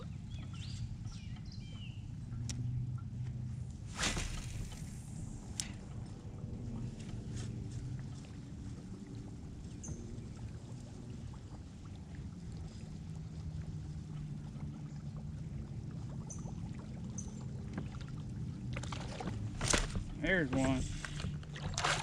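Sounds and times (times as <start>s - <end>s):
steady low rumble: 0.0s - 16.0s, 17.6s - 21.9s
water around kayak hull: 0.0s - 22.0s.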